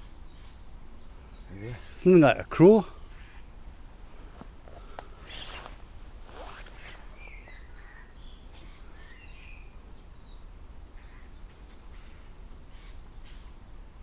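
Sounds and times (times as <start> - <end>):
bird chirping: 0.0 - 3.5, 4.7 - 13.6.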